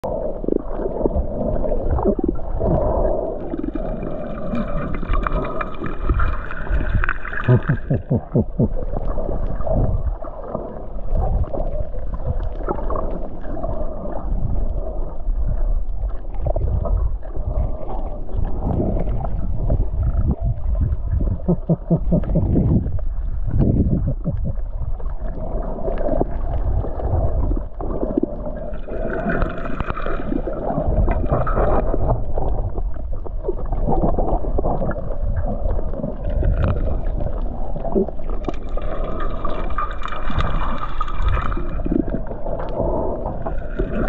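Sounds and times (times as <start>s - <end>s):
low underwater rumble: 0.0s - 44.0s
water gurgling and sloshing: 0.0s - 44.0s.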